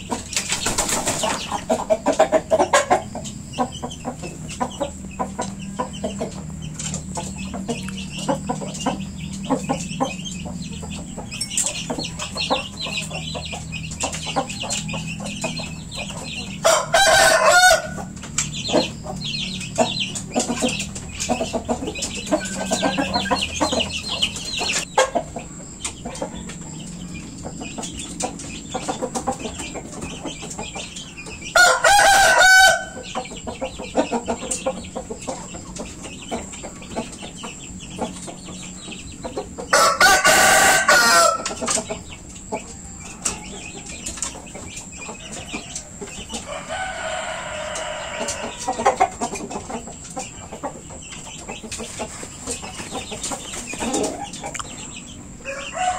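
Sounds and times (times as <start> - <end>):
roosters crowing: 0.0 - 51.3, 52.6 - 55.9
chickens clucking: 0.0 - 55.9.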